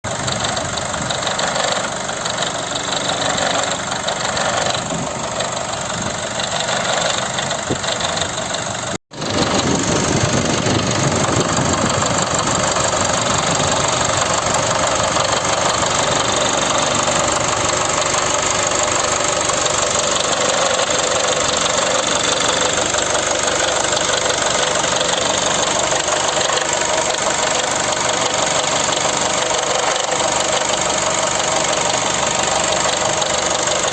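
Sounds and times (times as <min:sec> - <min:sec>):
abnormal engine noise: 0:00.0 - 0:33.9
diesel engine running: 0:00.0 - 0:33.9.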